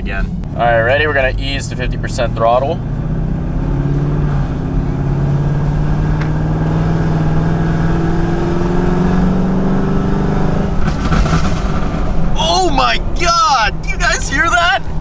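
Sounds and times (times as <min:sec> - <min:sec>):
exhaust crackles and pops: 0:00.0 - 0:08.2, 0:09.3 - 0:15.0
car exhaust accelerating: 0:00.0 - 0:15.0.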